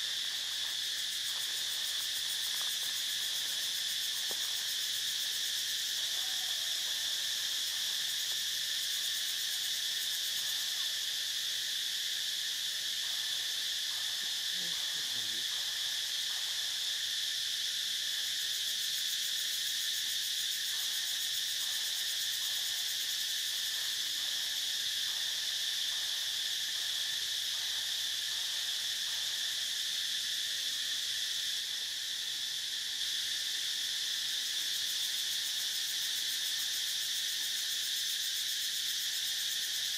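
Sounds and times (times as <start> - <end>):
insect chorus buzzing: 0.0 - 39.9.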